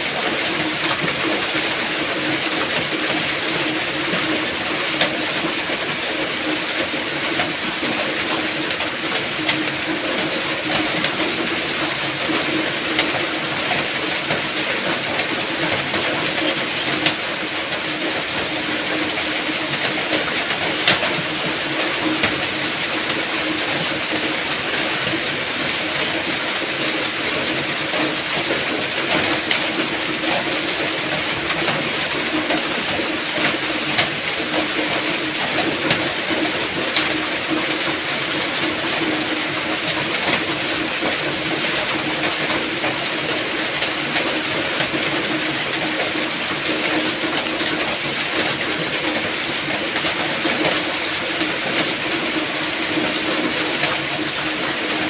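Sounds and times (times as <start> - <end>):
raindrop ticks: 0.1 - 55.0.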